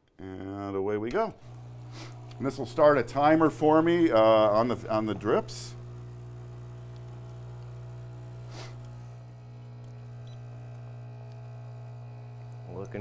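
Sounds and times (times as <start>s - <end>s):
espresso machine pump buzzing: 1.1s - 13.0s.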